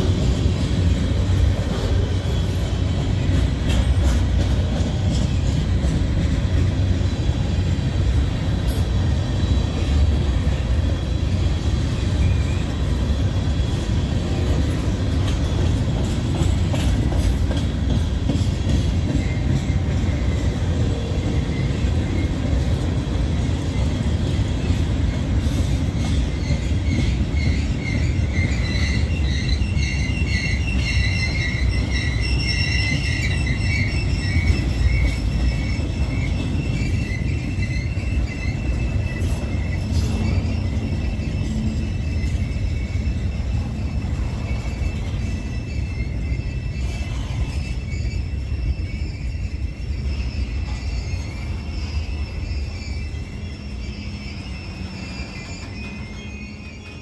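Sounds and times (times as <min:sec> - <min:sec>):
freight train rumbling: 0:00.0 - 0:57.0
pulsing brake squeal: 0:08.6 - 0:57.0.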